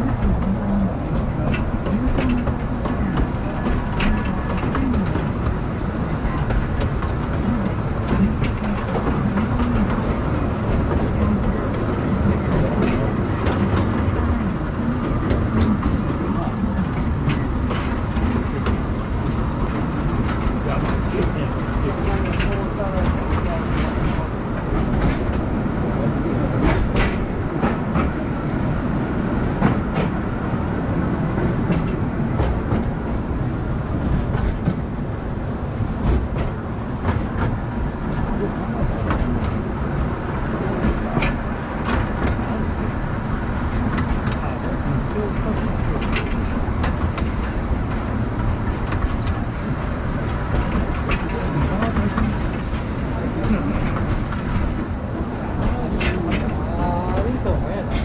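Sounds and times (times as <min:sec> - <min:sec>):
light track clicks: 0:00.0 - 0:58.0
train wheels rumbling on rails: 0:00.0 - 0:58.0.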